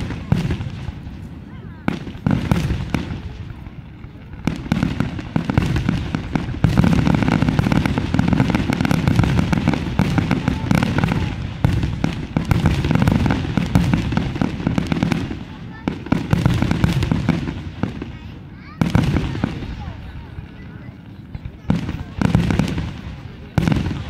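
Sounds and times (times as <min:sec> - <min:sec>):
fireworks booming and banging: 0:00.0 - 0:24.0.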